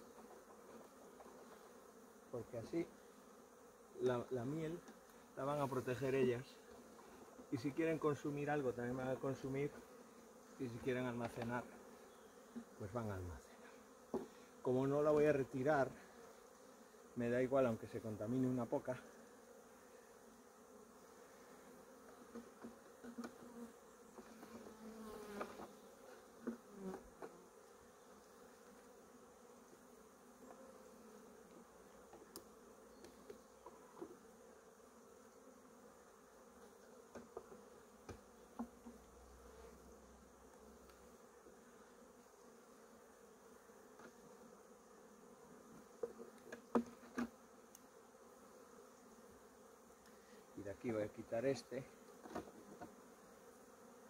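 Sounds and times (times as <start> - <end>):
honeybees buzzing: 0.0 - 54.0.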